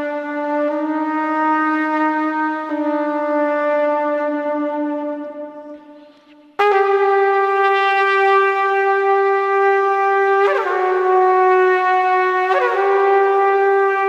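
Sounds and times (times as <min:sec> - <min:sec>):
horn-like wind instrument notes: 0:00.0 - 0:14.0.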